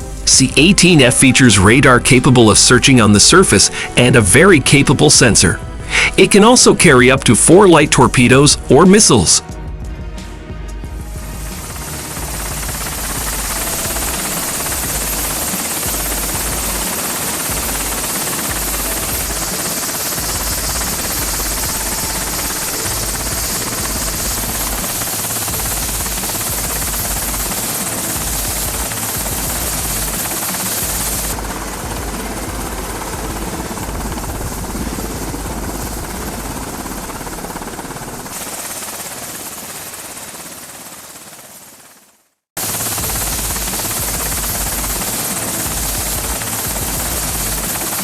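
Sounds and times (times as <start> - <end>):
helicopter rotor and turbine noise: 0.0 - 48.0.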